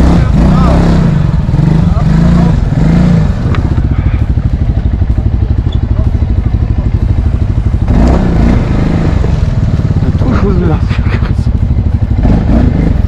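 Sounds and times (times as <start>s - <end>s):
quad engine revving and idling: 0.0s - 13.0s.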